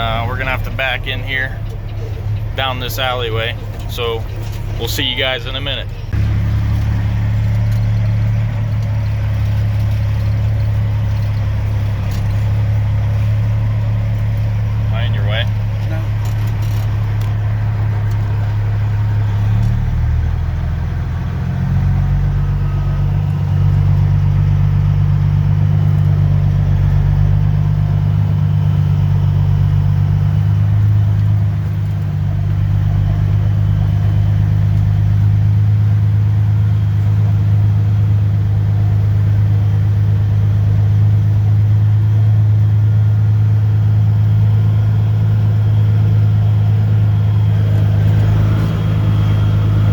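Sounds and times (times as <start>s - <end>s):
vehicle engine humming: 0.0s - 49.9s.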